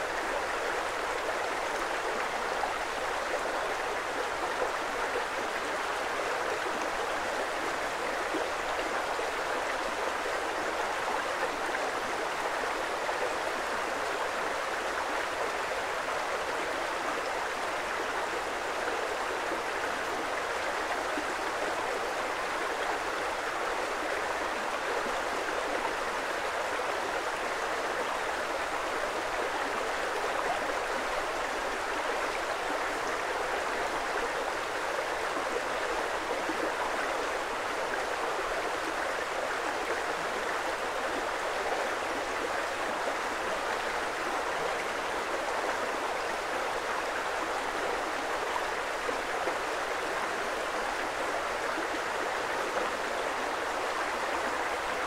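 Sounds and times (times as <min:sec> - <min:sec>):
creek water flowing: 0:00.0 - 0:55.0.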